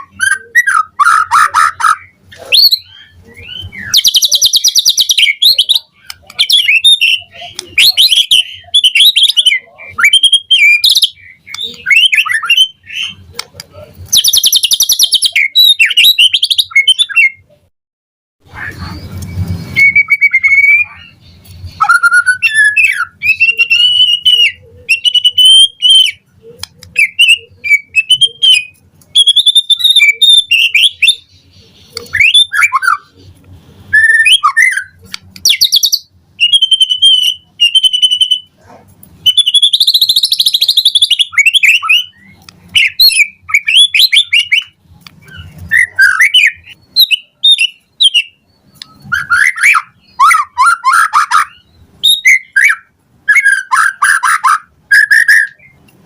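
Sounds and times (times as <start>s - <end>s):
songbird whistling and trilling: 0.0s - 13.3s, 14.1s - 17.6s, 18.8s - 33.3s, 33.9s - 38.6s, 39.2s - 55.9s.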